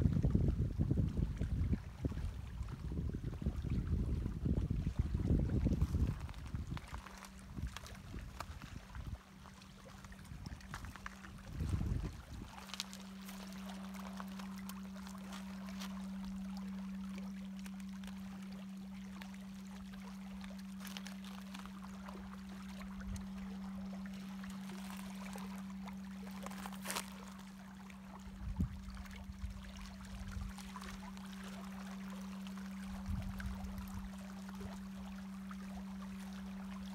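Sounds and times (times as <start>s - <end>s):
low hum: 0.0s - 36.9s
waves lapping on rocks: 1.4s - 36.9s.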